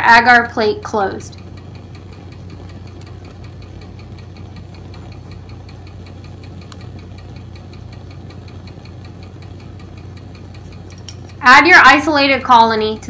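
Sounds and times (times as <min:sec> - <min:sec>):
fast regular ticking: 0:00.0 - 0:13.0
mechanical hum: 0:00.0 - 0:13.0.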